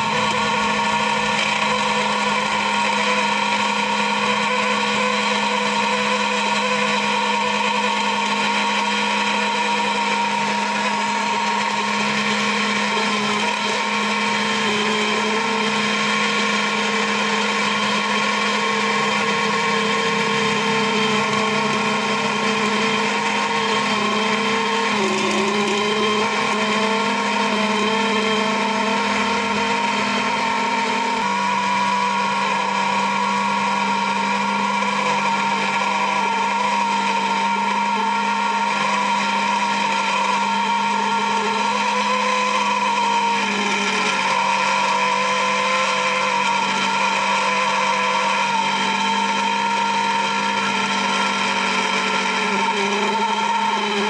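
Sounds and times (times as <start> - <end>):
key-cutting machine whining: 0.0 - 54.0.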